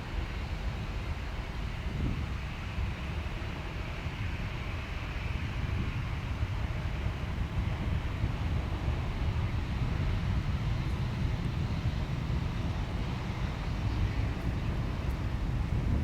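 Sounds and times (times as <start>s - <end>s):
jet engines rumbling: 0.0s - 16.0s
wind buffeting microphone: 0.3s - 16.0s.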